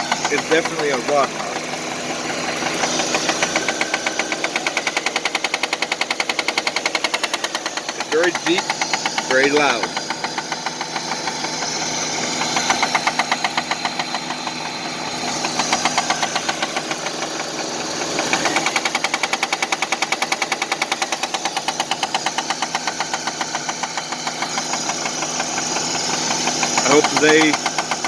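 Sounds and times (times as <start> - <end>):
car engine knocking: 0.0 - 28.0.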